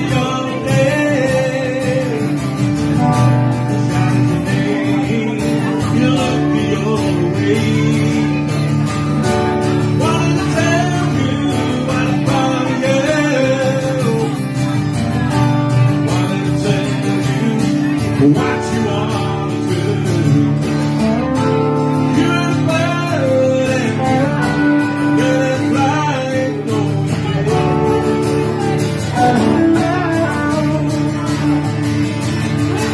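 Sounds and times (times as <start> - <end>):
electric guitar lead lines: 0.0 - 32.9
man singing: 0.0 - 32.9
strummed acoustic guitar: 0.0 - 32.9.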